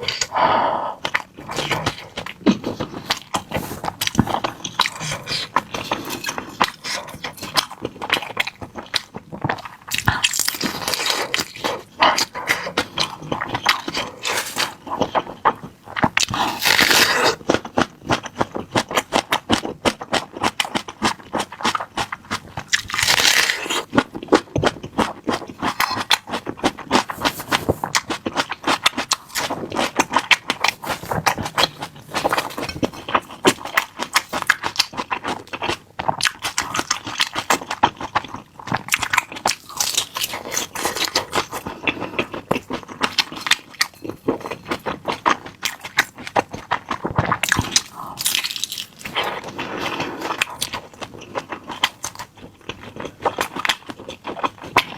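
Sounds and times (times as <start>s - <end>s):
crunching and chewing: 0.0s - 54.9s.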